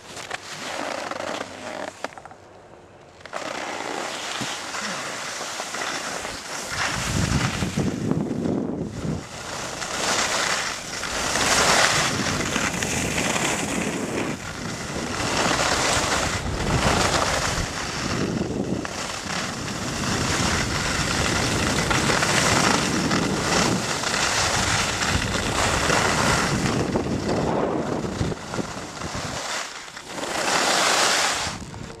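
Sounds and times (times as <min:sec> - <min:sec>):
skis scraping over snow: 0:00.0 - 0:02.2, 0:03.2 - 0:32.0
wind rushing over microphone: 0:06.2 - 0:32.0.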